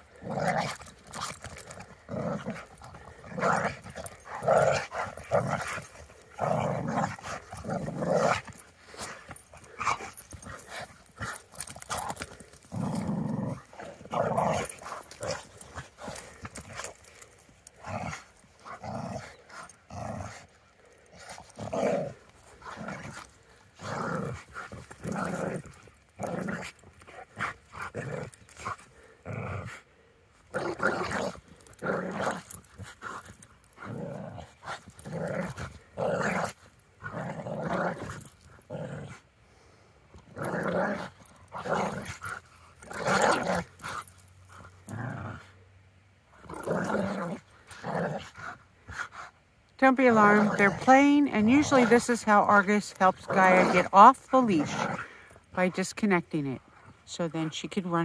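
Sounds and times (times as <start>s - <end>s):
dogs growling playfully: 0.0s - 58.0s.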